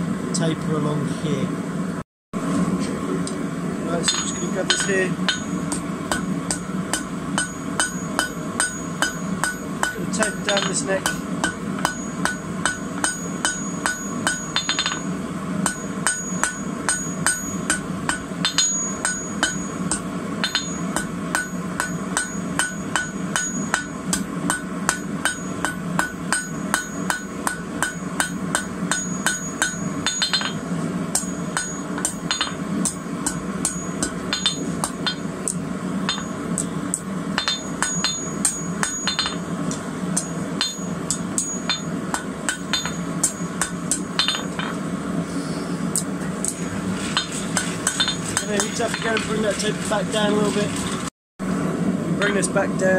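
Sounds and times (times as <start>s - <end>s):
hammer striking steel on anvil: 4.0s - 44.8s, 45.9s - 49.3s.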